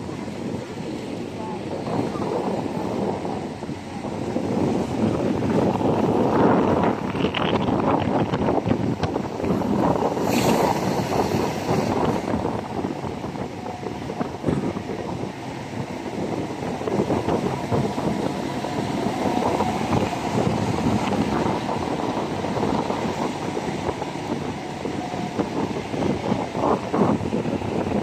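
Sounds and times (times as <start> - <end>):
tyres on road: 0.0 - 28.0
vehicle engine rumble: 0.0 - 28.0
wind buffeting microphone: 0.0 - 28.0.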